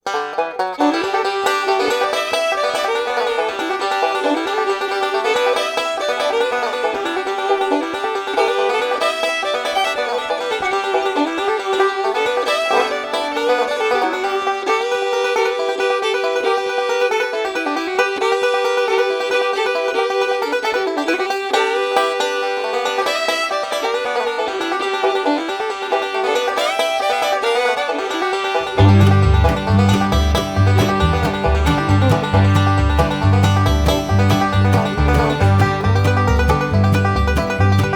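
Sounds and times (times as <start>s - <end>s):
upbeat bluegrass tune with banjo: 0.0s - 37.9s.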